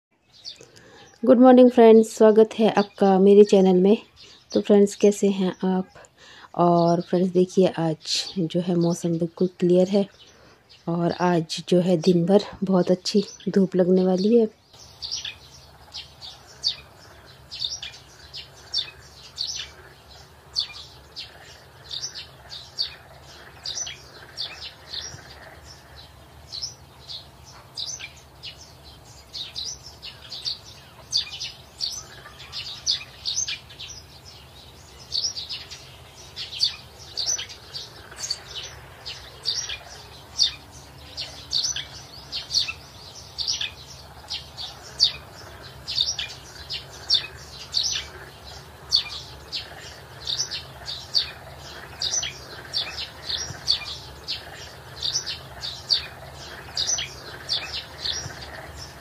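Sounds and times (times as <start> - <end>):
small birds chirping: 0.1 - 59.0.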